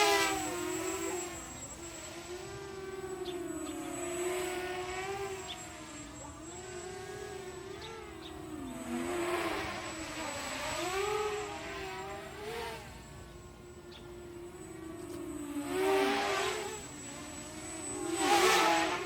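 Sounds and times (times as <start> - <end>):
quadcopter propellers buzzing: 0.0 - 19.0.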